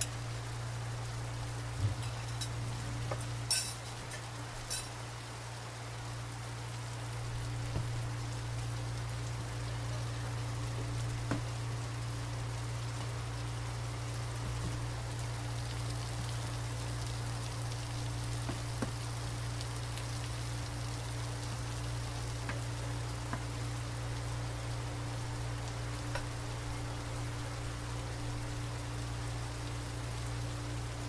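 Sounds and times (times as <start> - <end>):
meat sizzling in a wok: 0.0 - 31.0.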